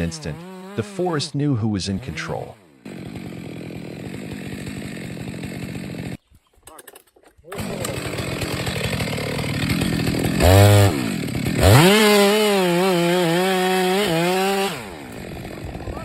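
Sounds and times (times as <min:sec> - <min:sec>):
chainsaw idling and revving: 0:00.0 - 0:06.2, 0:07.5 - 0:16.0.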